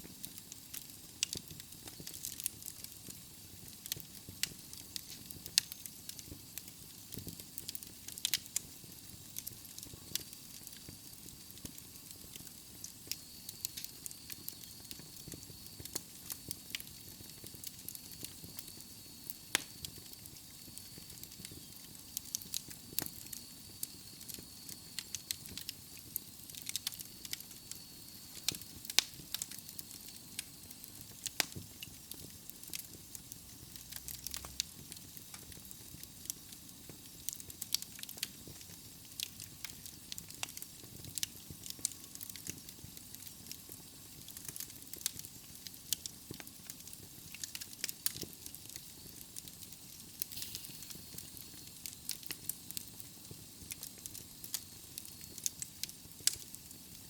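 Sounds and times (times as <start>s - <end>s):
burning wood crackling and popping: 0.0s - 57.0s
fire hissing: 0.0s - 57.0s.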